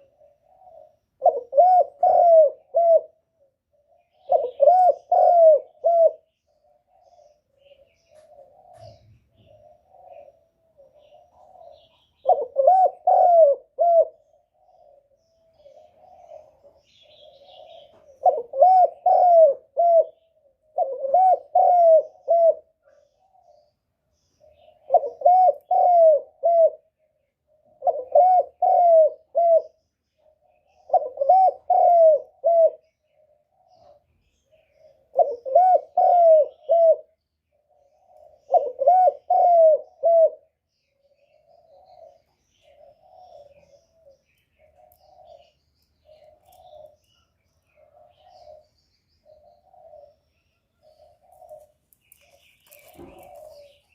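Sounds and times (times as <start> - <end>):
dove cooing: 0.0 - 53.9
soft dove murmuring: 0.0 - 53.9.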